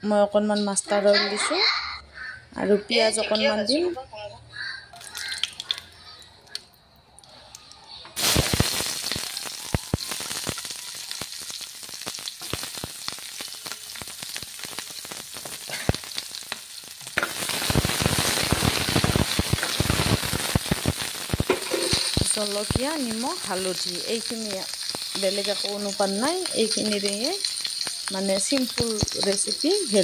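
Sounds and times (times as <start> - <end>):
onions sizzling in hot oil: 5.0 - 6.6, 7.2 - 30.0.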